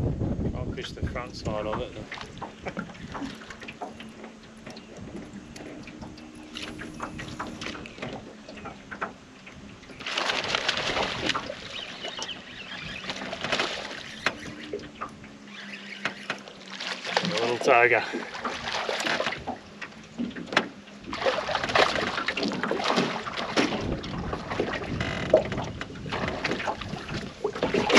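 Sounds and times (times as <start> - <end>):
water splashing around boat: 0.7 - 27.9.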